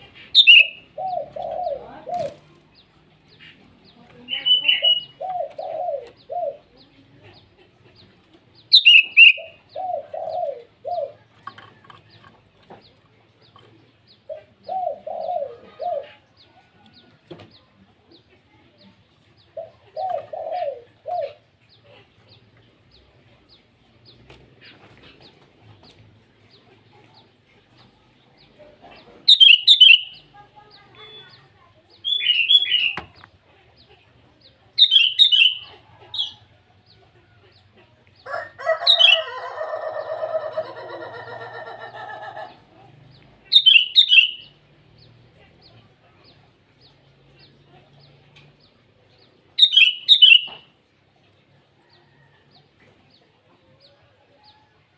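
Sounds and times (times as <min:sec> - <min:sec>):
bulbuls giving bright calls: 0:00.0 - 0:12.3, 0:12.9 - 0:17.1, 0:19.4 - 0:50.9.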